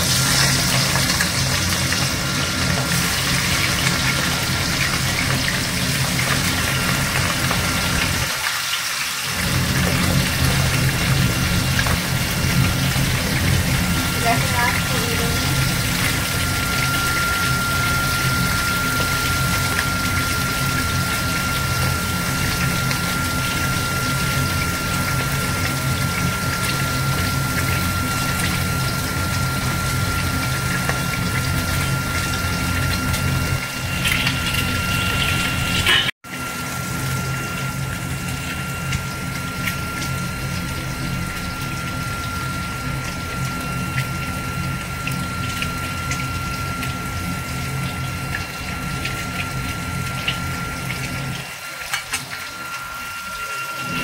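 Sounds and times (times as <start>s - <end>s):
fish frying in hot oil: 0.0s - 54.0s
steady hum: 9.2s - 54.0s.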